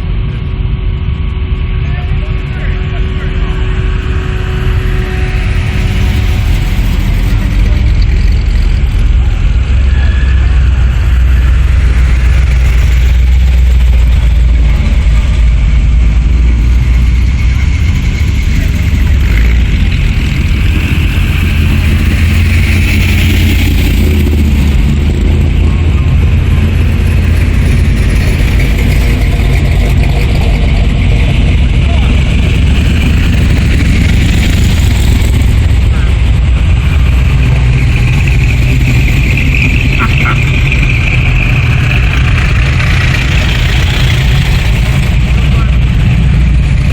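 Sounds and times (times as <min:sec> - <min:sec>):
car engines rumbling past: 0:00.0 - 0:46.9.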